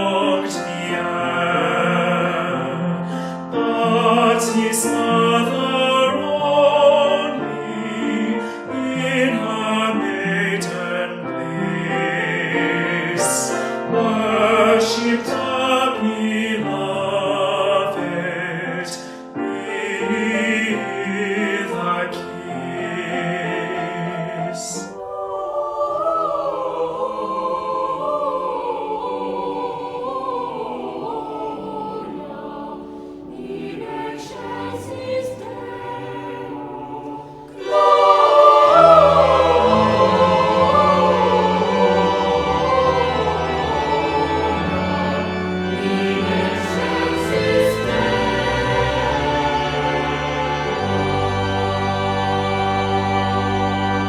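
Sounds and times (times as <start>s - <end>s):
choir singing a carol: 0.0s - 54.0s.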